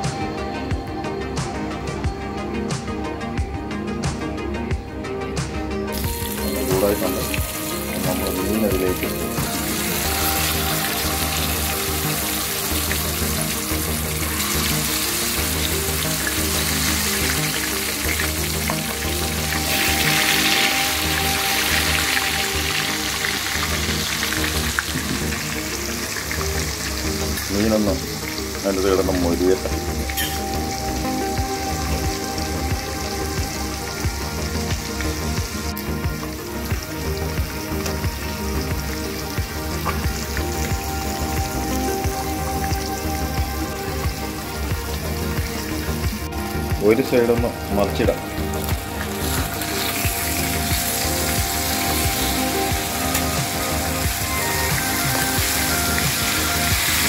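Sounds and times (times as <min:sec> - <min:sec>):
fish sizzling in hot oil: 0:05.9 - 0:57.0.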